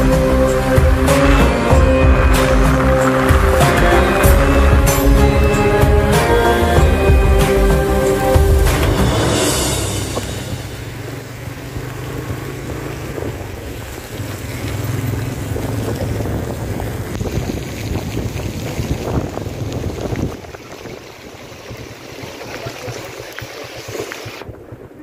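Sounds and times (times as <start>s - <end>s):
wind buffeting microphone: 0.7s - 25.0s.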